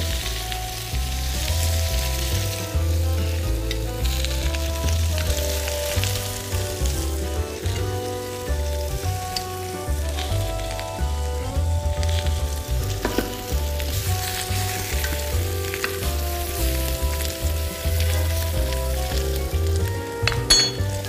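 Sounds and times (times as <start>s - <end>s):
background music with bass line: 0.0s - 21.0s
frying pan sizzling: 0.0s - 21.0s.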